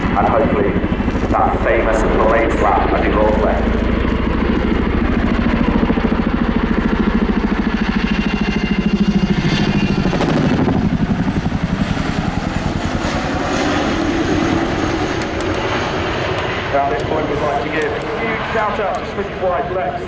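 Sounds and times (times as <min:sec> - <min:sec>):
helicopter rotors beating: 0:00.0 - 0:20.0.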